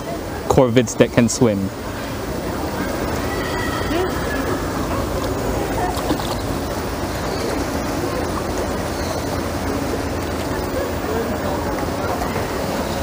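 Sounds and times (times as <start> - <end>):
faint distant voices: 0.0 - 13.0.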